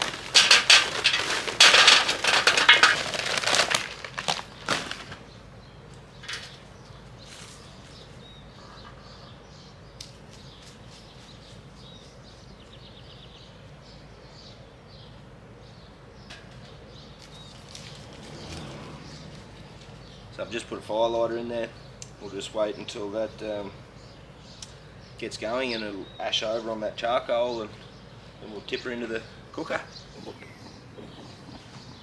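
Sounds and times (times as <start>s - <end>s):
birds chirping faintly: 0.0s - 32.0s.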